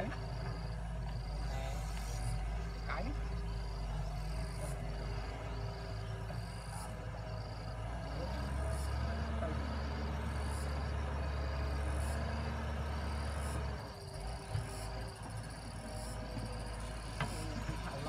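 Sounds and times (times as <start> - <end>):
excavator diesel engine running: 0.0 - 18.0
insects chirping: 0.0 - 18.0.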